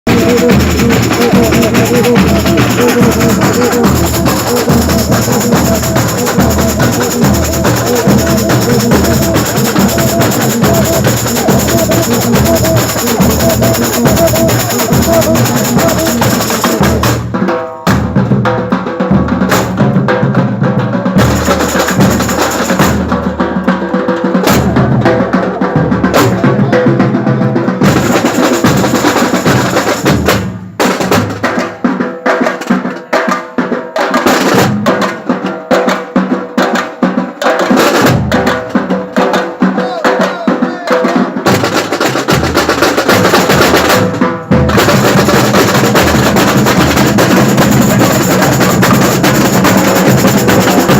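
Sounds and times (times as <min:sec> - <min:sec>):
drums and percussion music: 0:00.0 - 0:50.9.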